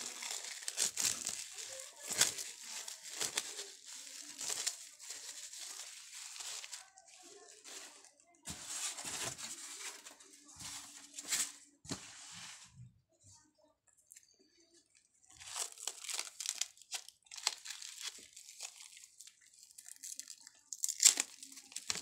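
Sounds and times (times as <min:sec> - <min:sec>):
plastic bag crinkling: 0:00.0 - 0:11.5, 0:15.4 - 0:22.0.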